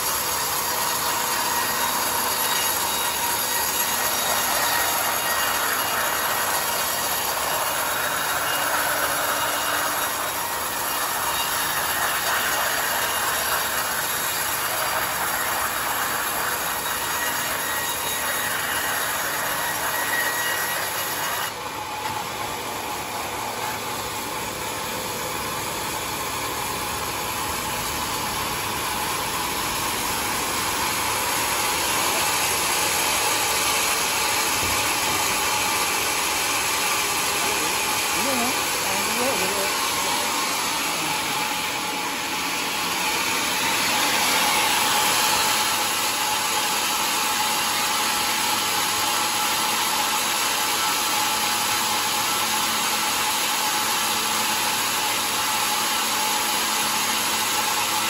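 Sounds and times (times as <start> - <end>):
sawmill blade cutting log: 0.0 - 58.0.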